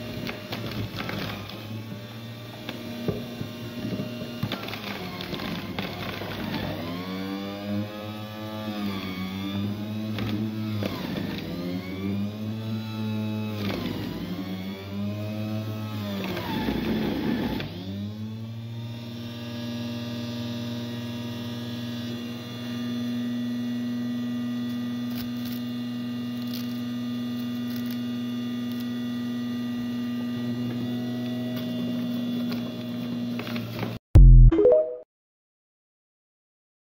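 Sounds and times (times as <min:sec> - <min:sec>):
juicer motor humming: 0:00.0 - 0:33.9
juicer grinding celery: 0:00.0 - 0:34.0.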